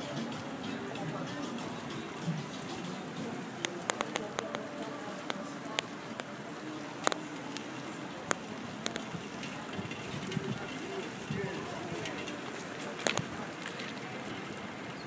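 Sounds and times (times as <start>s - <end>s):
trike rolling on pavement: 0.0s - 15.0s.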